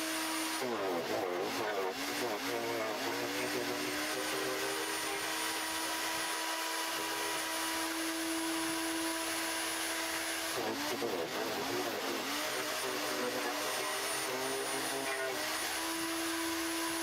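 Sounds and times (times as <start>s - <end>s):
garden shredder motor running: 0.0s - 17.0s.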